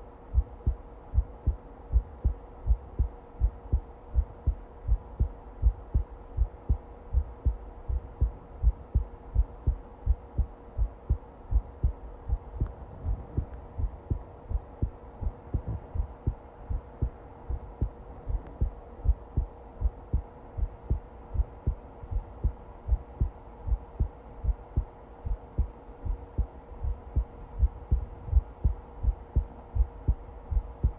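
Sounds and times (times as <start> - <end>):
faint steady hum: 0.0 - 30.9
heartbeat thumps: 0.3 - 30.9.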